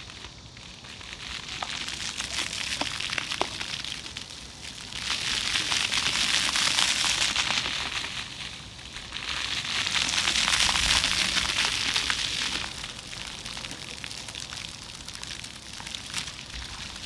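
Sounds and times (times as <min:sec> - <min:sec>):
fountain water splashing on stone: 0:00.0 - 0:17.0.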